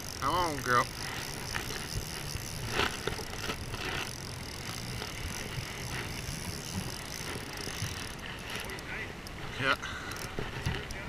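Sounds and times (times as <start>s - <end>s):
fishing reel drag ratcheting: 0.0s - 11.0s
river noise: 0.0s - 11.0s.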